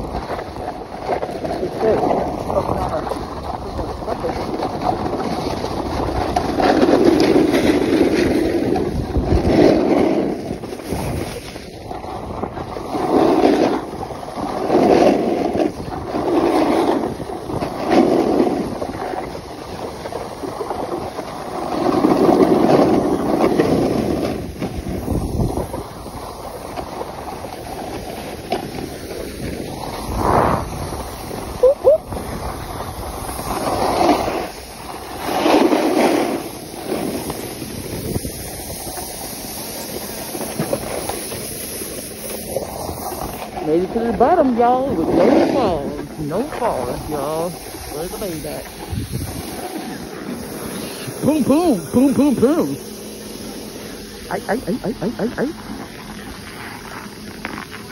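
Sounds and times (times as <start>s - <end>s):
snowboard scraping over snow: 0.0s - 57.9s
wind on microphone: 0.0s - 57.9s.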